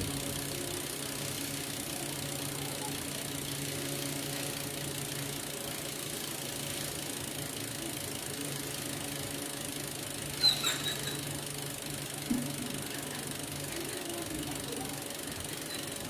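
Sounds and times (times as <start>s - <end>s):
bicycle hub freewheel buzzing: 0.0s - 16.0s.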